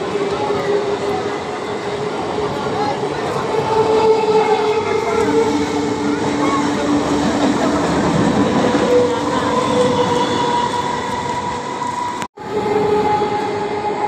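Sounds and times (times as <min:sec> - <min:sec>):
wheels rumbling on rails: 0:00.0 - 0:14.0.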